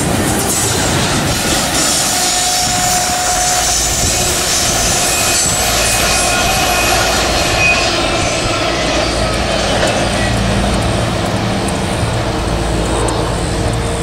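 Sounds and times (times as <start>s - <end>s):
train wheels running on rails: 0.0s - 14.0s.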